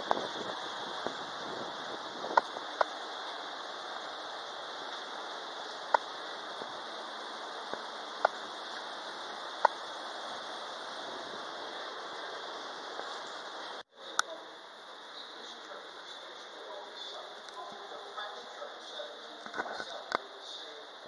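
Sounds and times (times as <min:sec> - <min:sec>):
street ambience: 0:00.0 - 0:21.0.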